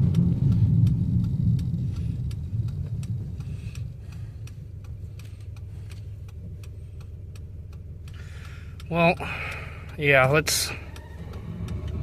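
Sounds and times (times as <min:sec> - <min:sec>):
car engine running rough: 0:00.0 - 0:12.0.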